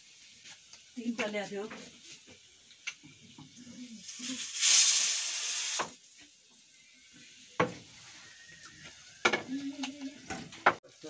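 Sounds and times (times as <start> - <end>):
food sizzling in hot pan: 0.0 - 11.0.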